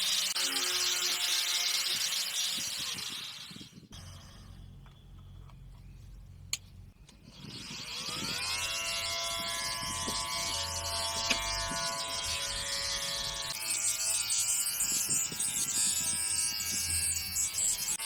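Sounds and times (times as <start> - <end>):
electric motor whine: 0.0 - 4.8, 7.3 - 18.0.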